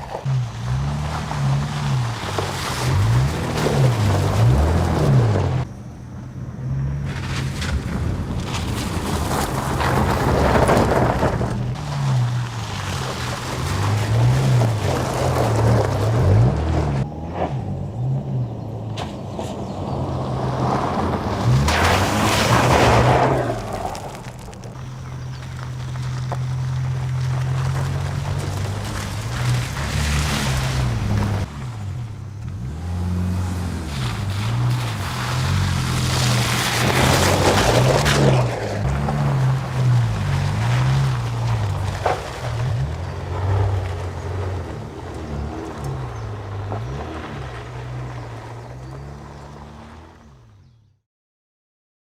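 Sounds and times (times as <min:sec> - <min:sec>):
pickup truck engine: 0:00.0 - 0:50.8
wind and road noise: 0:00.0 - 0:51.0.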